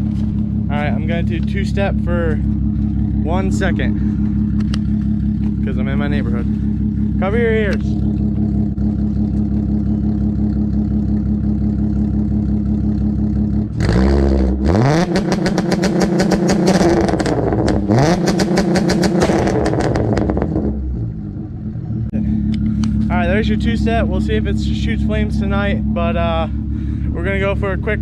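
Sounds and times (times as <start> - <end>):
exhaust pops and crackles: 0.0 - 21.0, 22.1 - 28.0
car engine idling and revving: 0.0 - 28.0.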